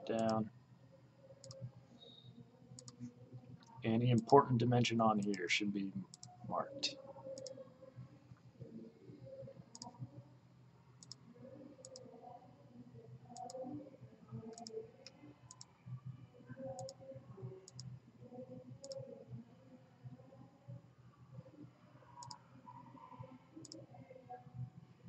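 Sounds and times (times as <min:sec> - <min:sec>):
faint low background noise: 0:00.0 - 0:25.0.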